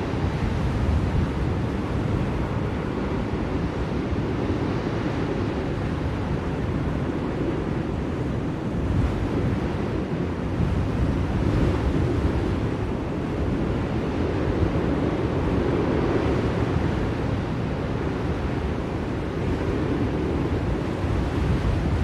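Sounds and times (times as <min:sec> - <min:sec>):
blizzard wind rushing: 0:00.0 - 0:22.0.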